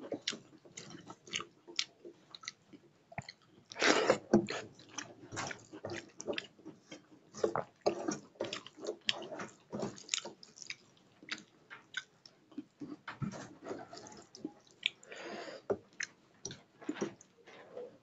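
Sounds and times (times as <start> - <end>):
man chewing wetly: 0.0 - 17.3.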